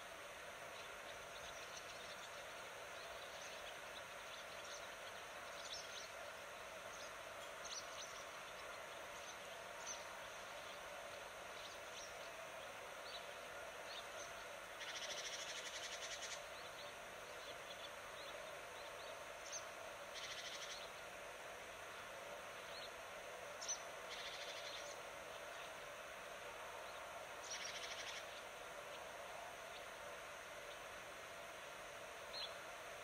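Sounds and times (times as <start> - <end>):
small birds chirping: 0.6 - 21.2, 21.8 - 31.0, 32.1 - 33.0.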